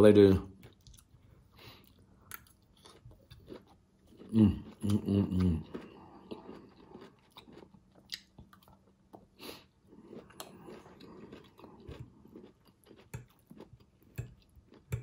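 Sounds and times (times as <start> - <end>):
person chewing food: 0.6 - 15.0.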